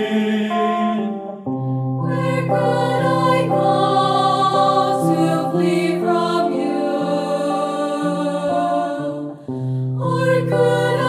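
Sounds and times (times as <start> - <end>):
choir singing held chords: 0.0 - 11.0
electric guitar: 0.0 - 11.0.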